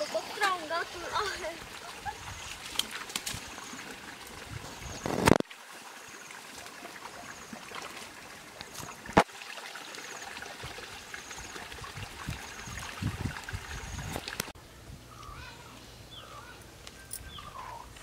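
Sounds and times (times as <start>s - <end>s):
stream trickling over rocks: 0.0s - 14.6s.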